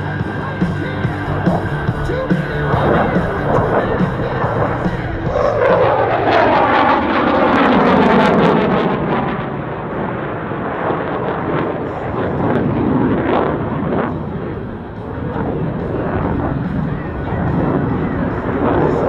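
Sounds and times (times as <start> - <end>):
jet engines passing by: 0.0 - 19.0.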